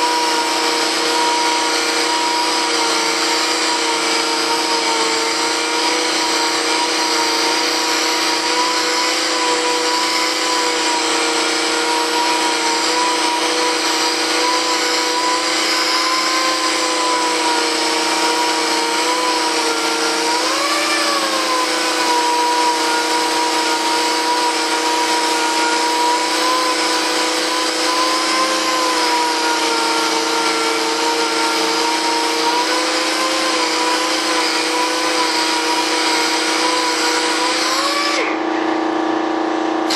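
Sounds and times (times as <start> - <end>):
sander whining: 0.0 - 39.9.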